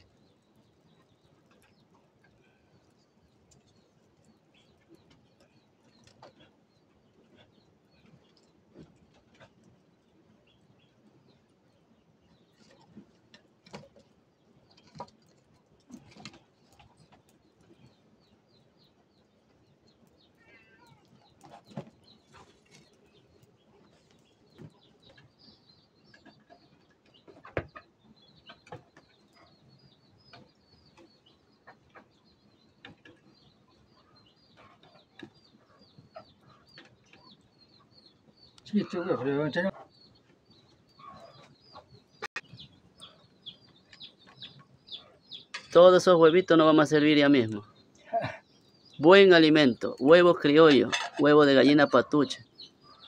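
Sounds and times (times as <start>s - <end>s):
birds chirping faintly: 0.0s - 53.0s.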